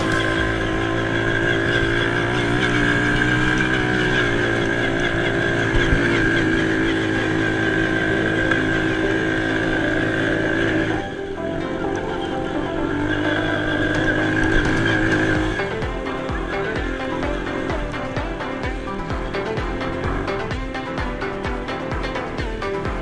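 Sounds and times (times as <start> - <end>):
atv engines revving: 0.0 - 11.1, 13.0 - 23.0.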